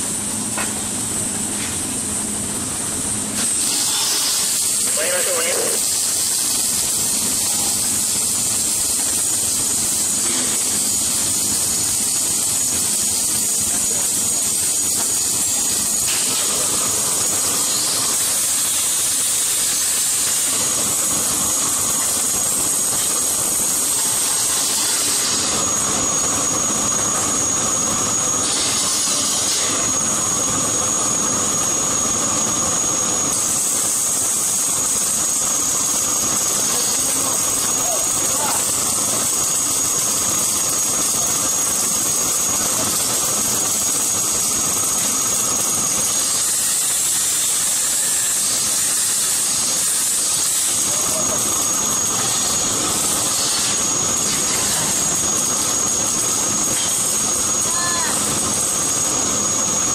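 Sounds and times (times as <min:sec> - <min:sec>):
thin high whine: 0:00.0 - 0:59.9
welding machine hiss and crackle: 0:00.0 - 0:59.9.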